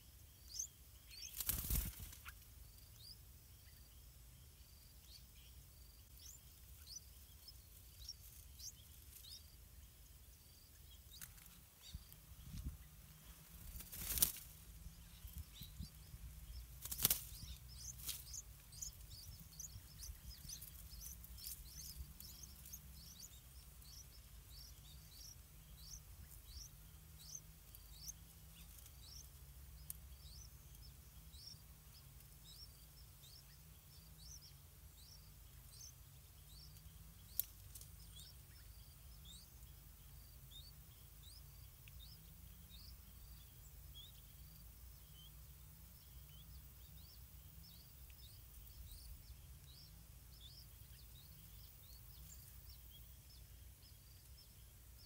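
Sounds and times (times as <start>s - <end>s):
nestlings begging chirps: 0.0s - 55.0s.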